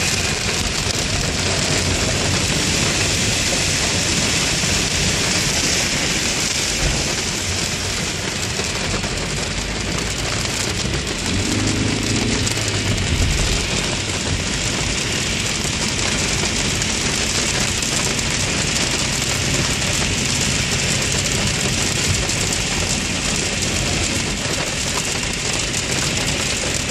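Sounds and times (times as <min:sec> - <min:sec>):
rain on car: 0:00.0 - 0:26.9
tyres on wet road: 0:00.0 - 0:26.9.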